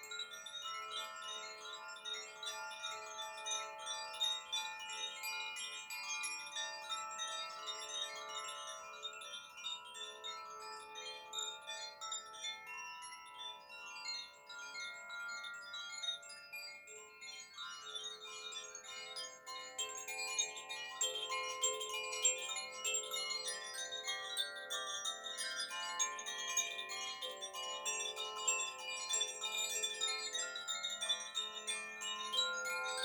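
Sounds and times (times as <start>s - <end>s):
bamboo wind chimes ringing: 5.2s - 33.0s.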